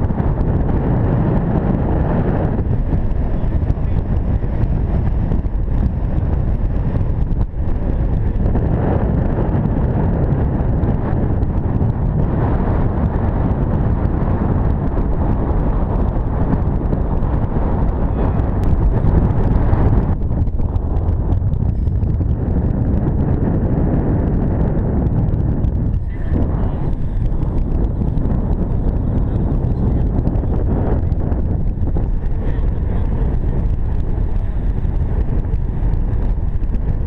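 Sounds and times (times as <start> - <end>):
strong wind buffeting microphone: 0.0 - 37.0.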